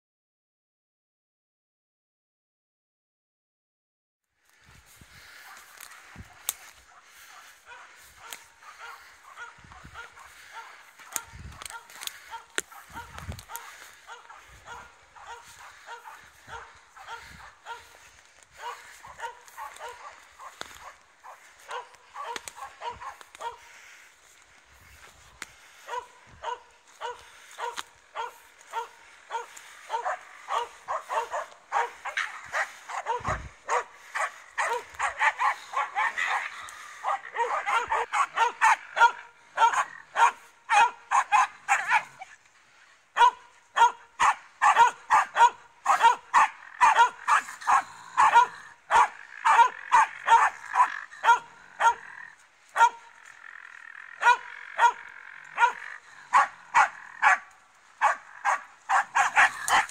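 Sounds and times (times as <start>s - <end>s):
dog barking rapidly: 5.2s - 23.8s, 25.6s - 42.3s, 43.2s - 52.2s, 52.8s - 53.2s, 54.1s - 59.9s.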